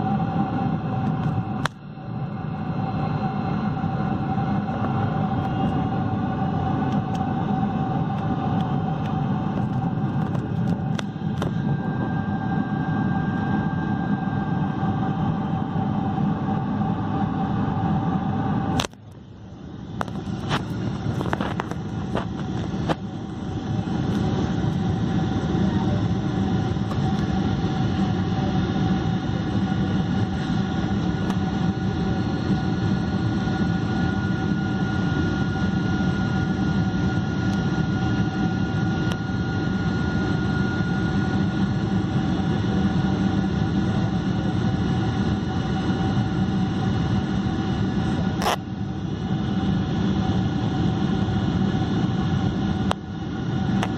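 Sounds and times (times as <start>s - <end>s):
airplane cabin engine rush: 0.0s - 53.9s
steady engine whine: 0.0s - 53.9s.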